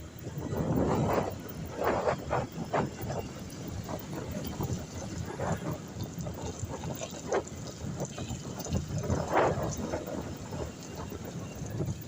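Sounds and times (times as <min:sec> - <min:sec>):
low traffic rumble: 0:00.0 - 0:12.0
wind buffeting microphone: 0:00.0 - 0:12.0.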